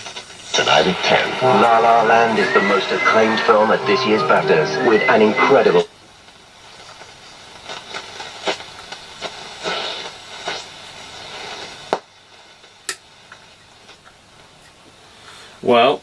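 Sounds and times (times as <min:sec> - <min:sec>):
radio static hiss and crackles: 0:00.0 - 0:16.0.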